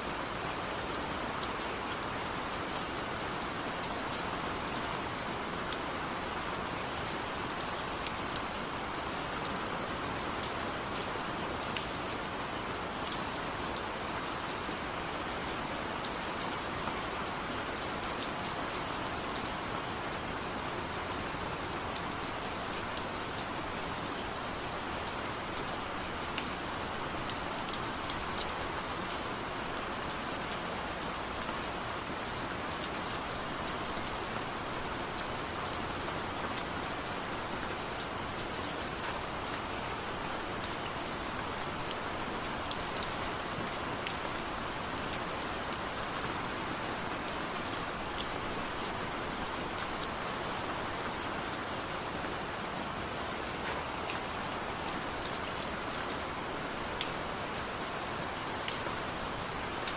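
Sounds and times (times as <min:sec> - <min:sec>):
rain hiss: 0:00.0 - 0:59.9.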